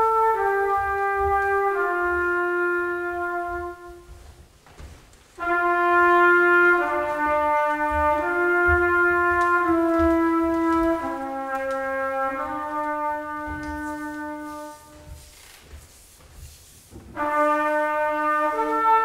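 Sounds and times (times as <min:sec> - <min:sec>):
trumpet playing long notes: 0:00.0 - 0:04.2, 0:05.4 - 0:15.4, 0:17.0 - 0:19.0.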